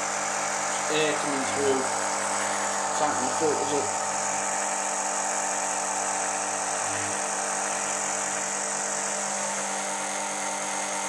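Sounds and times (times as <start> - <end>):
electric pump humming: 0.0 - 11.0.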